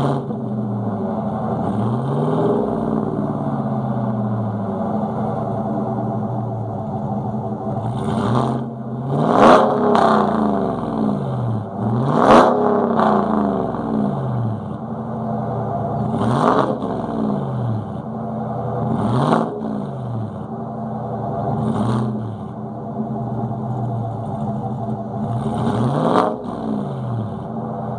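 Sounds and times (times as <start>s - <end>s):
truck engine revving: 0.0s - 27.9s.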